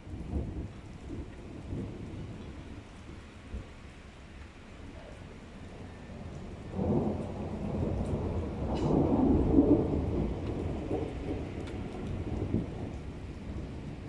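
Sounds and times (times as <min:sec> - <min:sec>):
rolling thunder: 0:00.0 - 0:03.8, 0:05.7 - 0:14.0.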